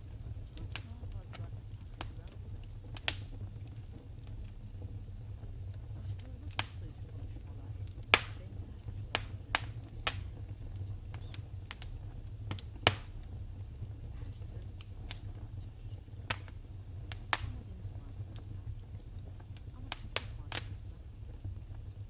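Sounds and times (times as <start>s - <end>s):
low steady hum: 0.0s - 22.0s
sharp pops of fire: 0.0s - 22.0s
wood fire crackling: 0.0s - 22.0s.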